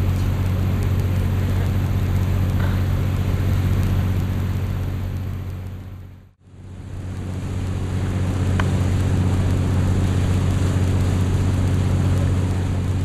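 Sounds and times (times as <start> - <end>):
rushing water: 0.0 - 6.1, 6.7 - 13.0
boat engine running: 0.0 - 13.0
wind noise: 0.0 - 13.0.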